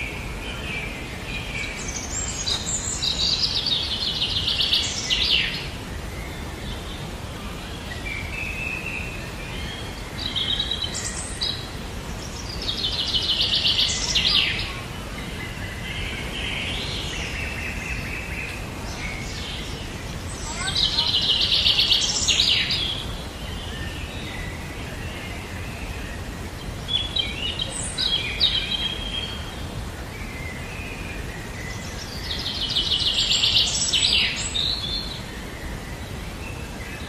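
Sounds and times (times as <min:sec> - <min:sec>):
low background noise: 0:00.0 - 0:37.0.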